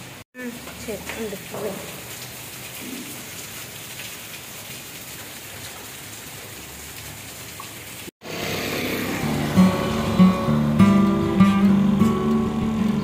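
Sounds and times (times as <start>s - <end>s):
rain falling on wet street: 0.0s - 13.0s.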